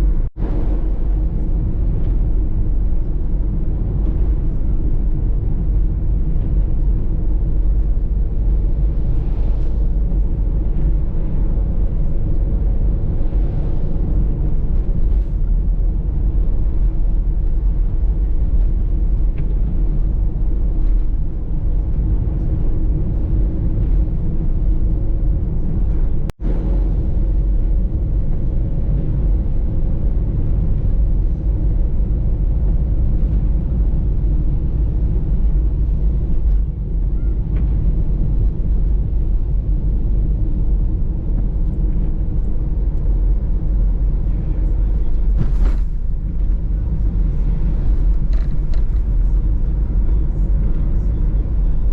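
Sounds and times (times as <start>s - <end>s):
engine and road rumble in van: 0.0s - 51.9s.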